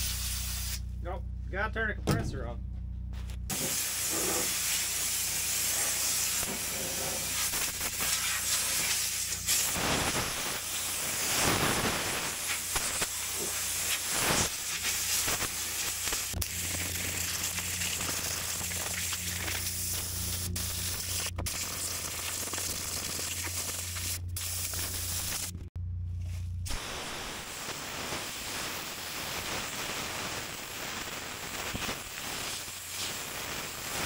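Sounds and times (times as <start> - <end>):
compressed air hissing: 0.0 - 0.8, 3.5 - 25.6, 26.7 - 34.0.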